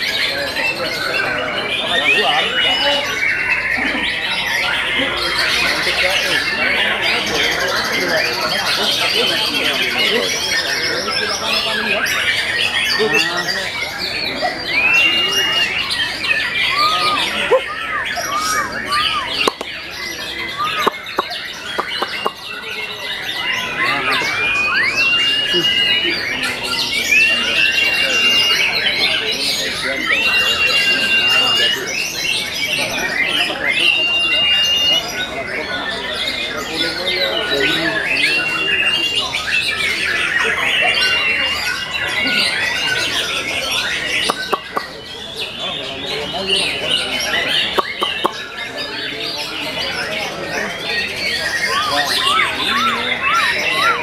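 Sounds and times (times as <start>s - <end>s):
birds singing whistled notes: 0.0s - 54.0s
dense bird chirping: 0.0s - 54.0s.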